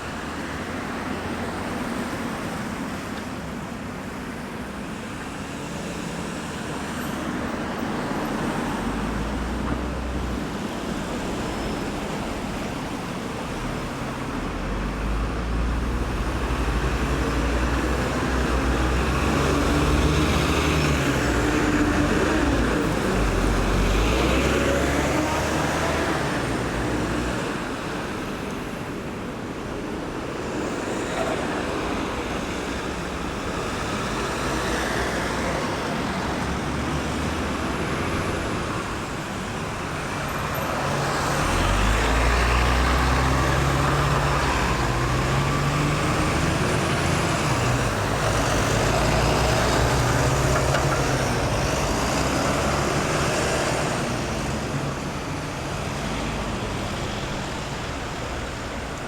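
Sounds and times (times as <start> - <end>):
road traffic passing: 0.0 - 59.0
large vehicle engine rumble: 7.5 - 59.0.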